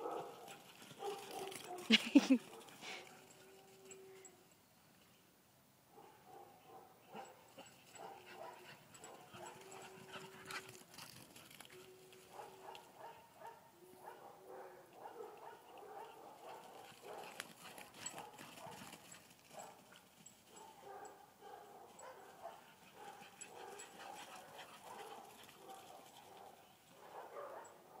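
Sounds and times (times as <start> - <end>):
dogs barking and yipping: 0.0 - 4.3, 6.0 - 28.0.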